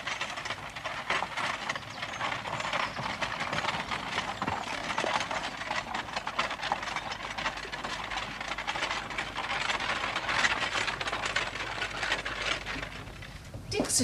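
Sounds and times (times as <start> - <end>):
carriage wheels rattling: 0.0 - 14.0
hooves clip-clopping: 0.0 - 14.0.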